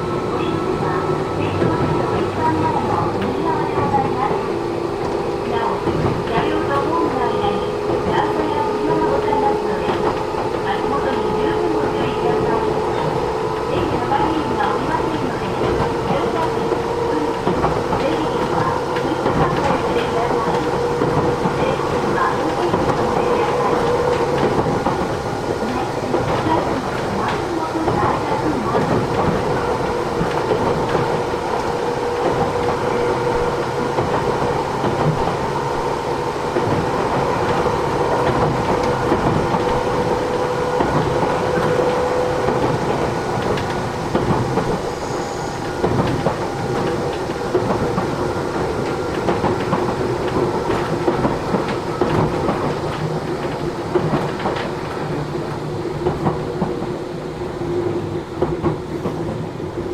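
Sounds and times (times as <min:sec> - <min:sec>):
train rumbling: 0:00.0 - 0:59.9
wheels clicking over rail joints: 0:01.5 - 0:44.9, 0:45.6 - 0:57.0.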